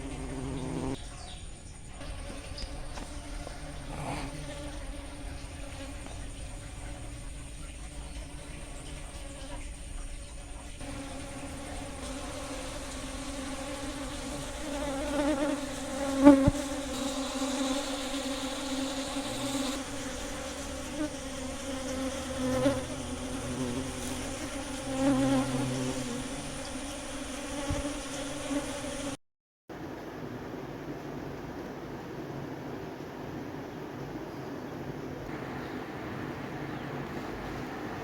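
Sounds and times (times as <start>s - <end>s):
bees buzzing: 0.0s - 1.0s, 1.9s - 29.2s, 29.9s - 38.0s.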